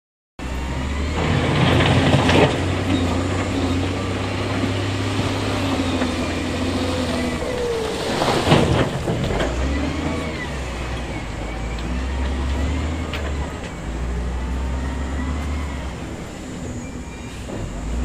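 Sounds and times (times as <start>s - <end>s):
heavy diesel engine running: 0.4s - 18.0s.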